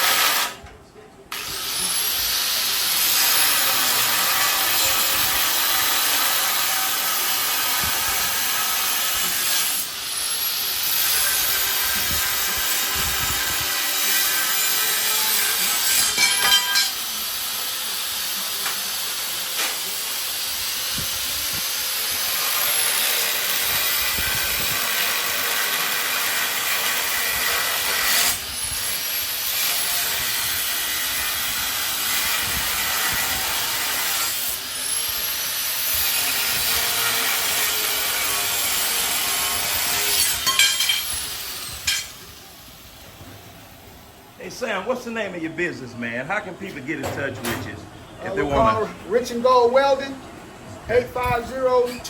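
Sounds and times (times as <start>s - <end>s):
power tool cutting steel: 0.0s - 0.6s, 1.3s - 43.1s.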